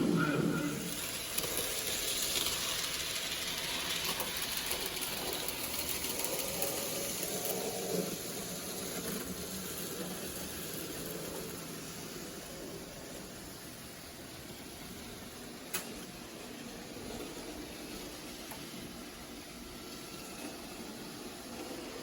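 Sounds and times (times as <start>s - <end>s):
model train running on track: 0.0s - 22.0s.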